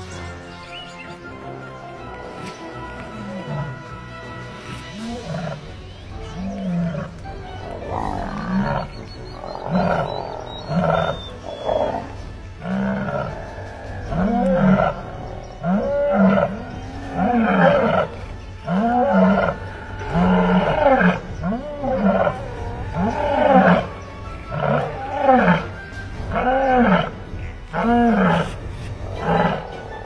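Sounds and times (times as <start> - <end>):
lion roaring: 5.0 - 30.0.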